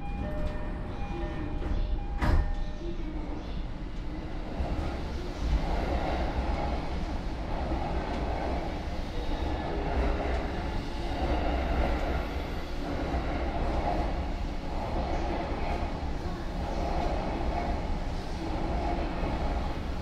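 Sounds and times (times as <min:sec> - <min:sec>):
idling train rumble and hum: 0:00.0 - 0:20.0.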